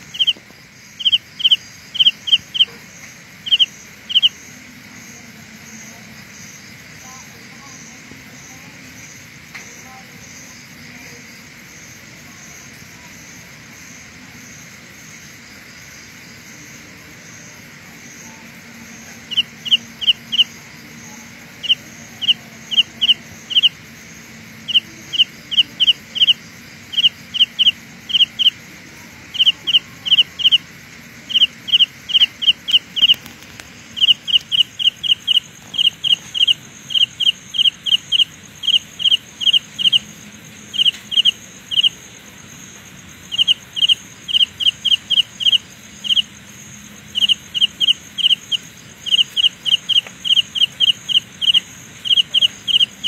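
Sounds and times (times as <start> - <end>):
cricket chirping: 0.0 - 53.0.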